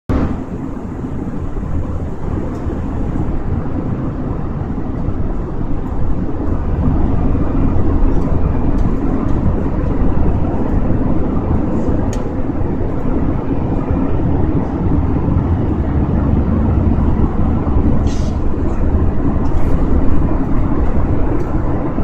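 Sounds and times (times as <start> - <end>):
airliner cabin engine roar: 0.1 - 22.0.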